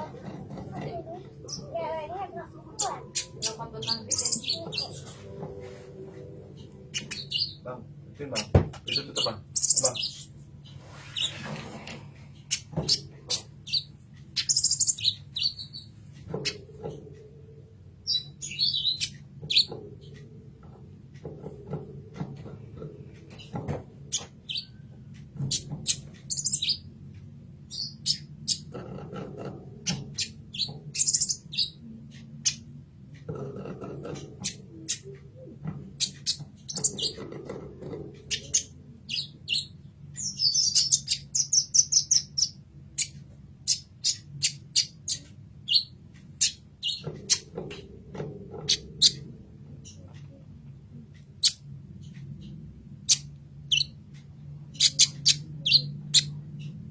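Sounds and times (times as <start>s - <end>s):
steady low hum: 0.0s - 56.9s
bird chirping and trilling: 0.1s - 5.4s, 6.2s - 11.5s, 12.3s - 17.0s, 18.0s - 20.3s, 23.3s - 27.0s, 27.6s - 28.8s, 29.8s - 32.8s, 34.1s - 50.4s, 51.2s - 56.9s.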